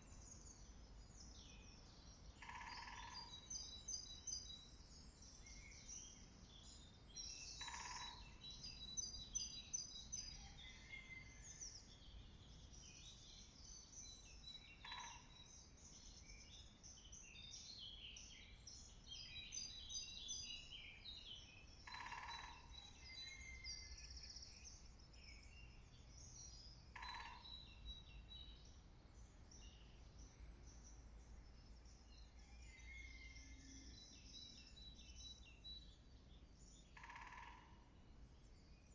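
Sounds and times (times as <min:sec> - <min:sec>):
small birds singing: 0:00.0 - 0:38.9.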